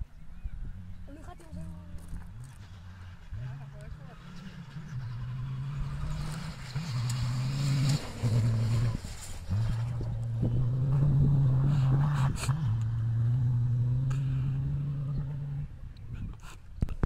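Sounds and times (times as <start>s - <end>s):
diesel engine high-revving drone: 0.0s - 16.2s.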